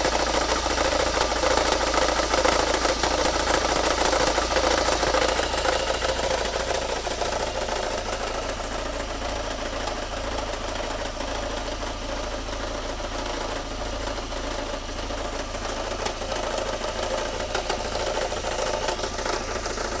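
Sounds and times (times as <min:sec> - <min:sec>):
car engine idling: 0:00.0 - 0:20.0
fast even ticking rattle: 0:00.0 - 0:20.0.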